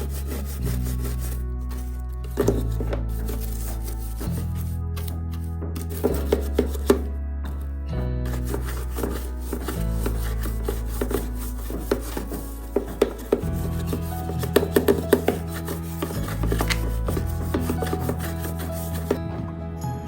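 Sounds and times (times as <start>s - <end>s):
hands rubbing and scrubbing: 0.0s - 7.2s, 8.2s - 19.4s
soft background music: 0.0s - 20.0s.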